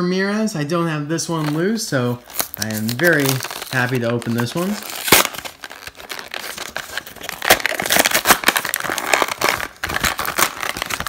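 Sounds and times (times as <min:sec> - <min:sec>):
plastic packaging crinkling: 0:01.2 - 0:11.0.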